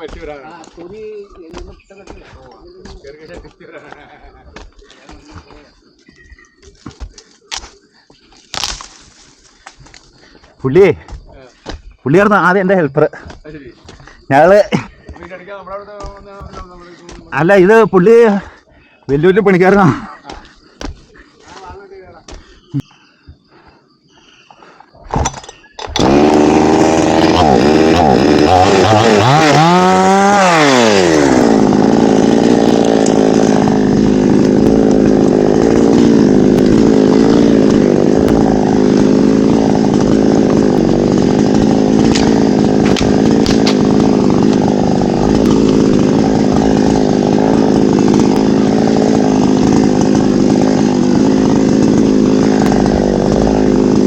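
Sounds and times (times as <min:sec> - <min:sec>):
chainsaw revving and cutting wood: 0:00.0 - 0:04.0, 0:04.6 - 0:21.8, 0:25.8 - 0:54.0.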